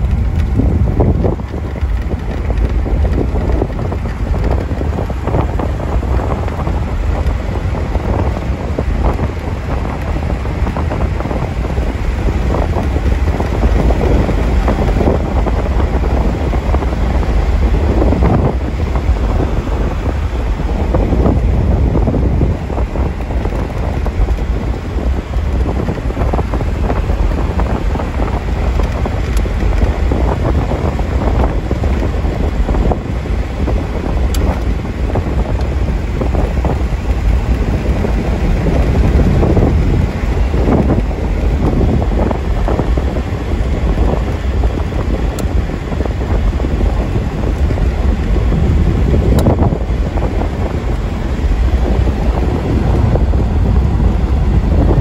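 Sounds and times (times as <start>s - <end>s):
car engine rumble: 0.0s - 55.0s
wind buffeting microphone: 0.0s - 55.0s.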